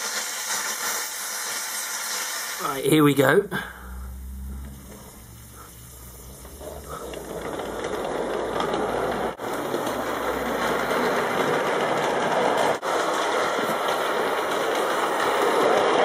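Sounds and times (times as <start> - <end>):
model locomotive running: 0.0 - 16.0
steam hissing: 0.0 - 16.0.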